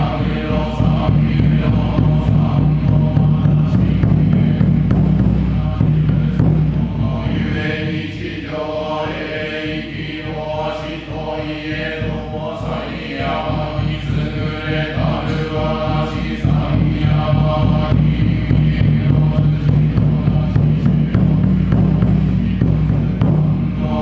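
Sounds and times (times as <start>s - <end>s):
priest chanting: 0.0s - 21.6s, 22.3s - 24.0s.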